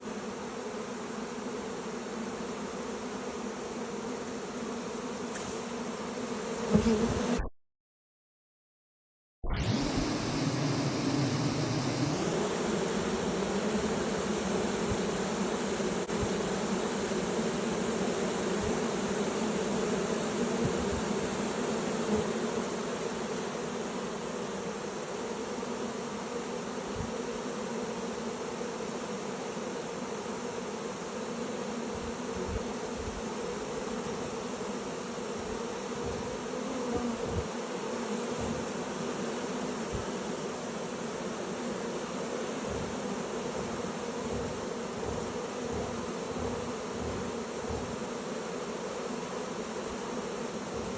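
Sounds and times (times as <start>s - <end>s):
bee swarm buzzing: 0.0s - 7.5s, 9.6s - 50.9s.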